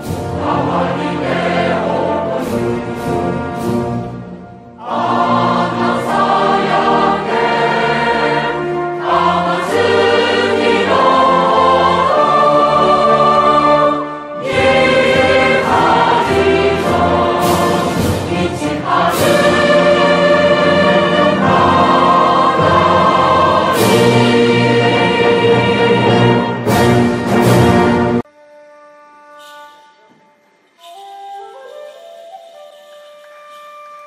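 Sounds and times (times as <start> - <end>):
choir singing held chords: 0.0 - 28.3.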